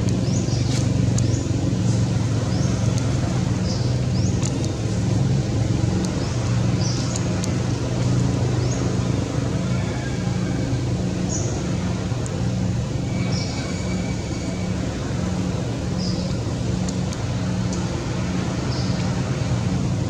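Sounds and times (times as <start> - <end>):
low motor rumble: 0.0 - 20.0.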